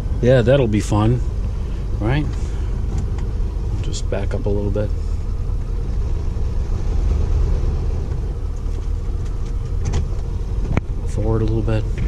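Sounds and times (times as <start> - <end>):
engine running low rumble: 0.0 - 12.0.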